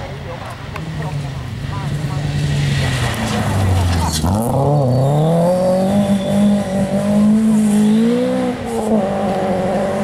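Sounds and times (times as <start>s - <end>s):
rally car engine accelerating: 0.7s - 10.0s.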